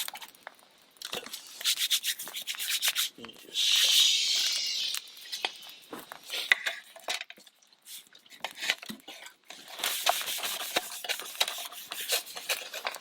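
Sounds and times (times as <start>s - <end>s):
food packaging rustling: 0.0s - 13.0s.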